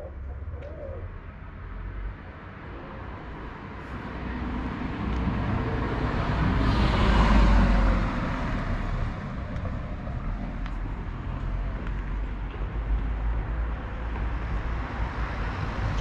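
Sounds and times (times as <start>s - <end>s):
car passing: 1.0s - 16.0s.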